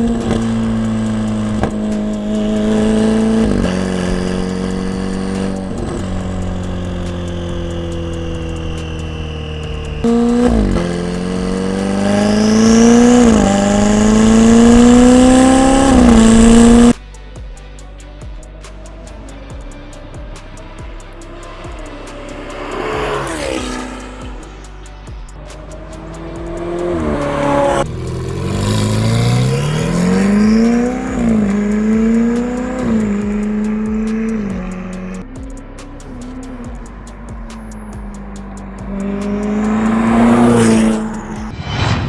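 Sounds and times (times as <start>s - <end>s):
sports car engine accelerating hard: 0.0s - 17.0s, 18.4s - 41.5s.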